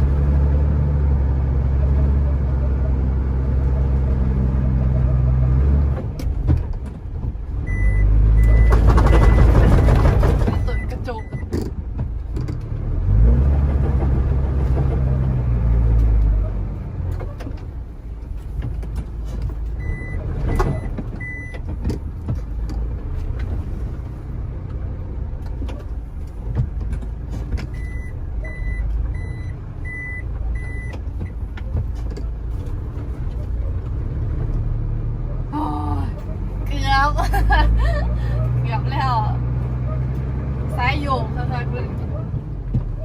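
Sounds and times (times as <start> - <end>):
heavy truck engine revving: 0.0 - 18.2, 18.8 - 43.0.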